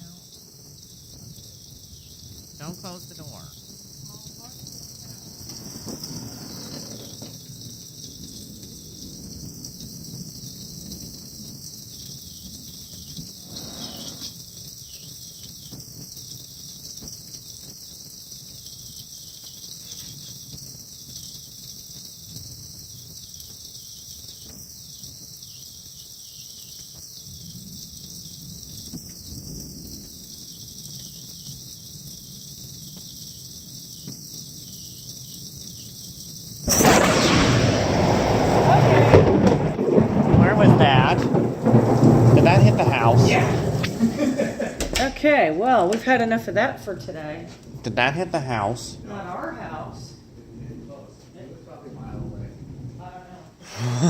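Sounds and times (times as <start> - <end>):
high-pitched insect chorus: 0.0 - 54.0
light rain hiss: 0.0 - 54.0.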